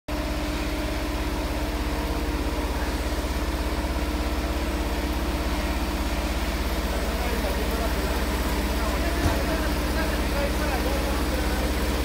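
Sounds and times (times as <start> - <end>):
quilting machine running: 0.2 - 12.0.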